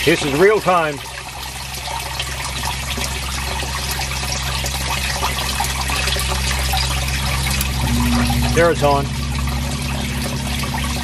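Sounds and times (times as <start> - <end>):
sump pump humming: 0.0 - 11.0
water trickling and pouring: 0.0 - 11.0.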